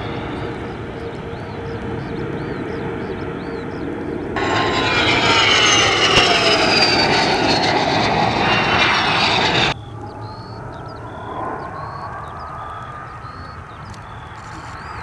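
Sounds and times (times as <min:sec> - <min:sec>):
airplane engine passing: 0:00.0 - 0:15.0.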